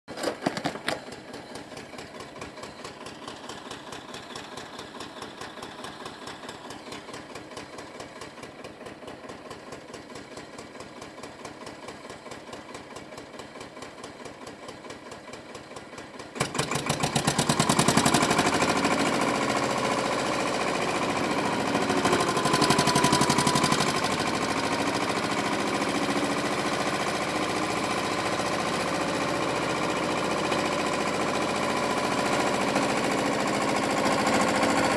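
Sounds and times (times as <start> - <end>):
diesel engine idling with knock: 0.2 - 34.9
wheel loader engine running loud: 0.6 - 34.9.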